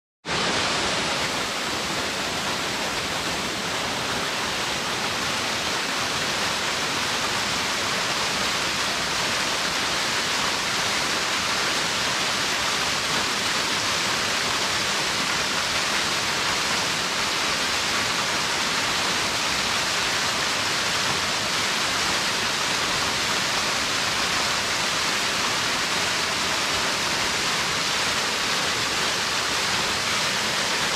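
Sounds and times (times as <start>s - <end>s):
waterfall splashing: 0.3s - 30.9s.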